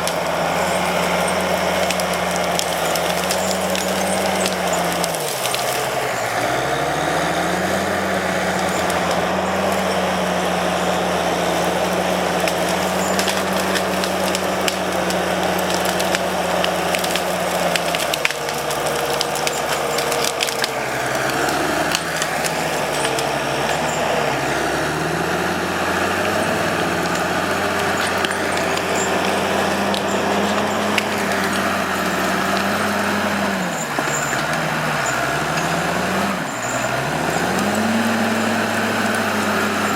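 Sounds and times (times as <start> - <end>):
diesel engine under heavy load: 0.0 - 39.9.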